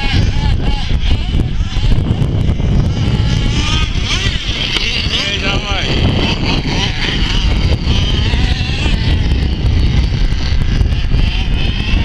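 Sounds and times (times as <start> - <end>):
small high-pitched motors racing: 0.0 - 12.0
wind noise on microphone: 0.0 - 12.0.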